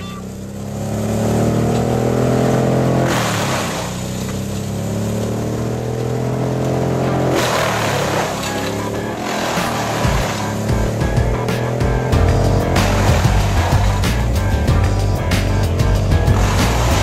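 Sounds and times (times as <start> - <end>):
woodchipper running: 0.2 - 17.0
woodchipper crunching wood: 0.6 - 17.0.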